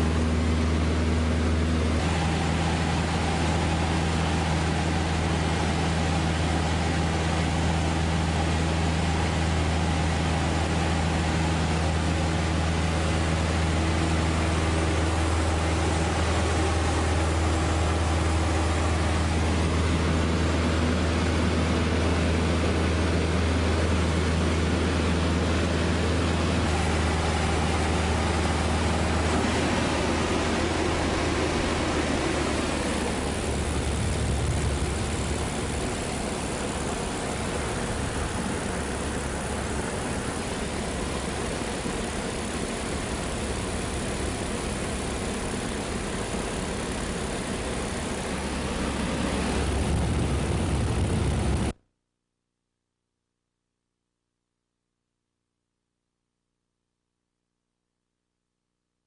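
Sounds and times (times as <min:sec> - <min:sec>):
propeller aircraft engine drone: 0:00.0 - 0:51.8.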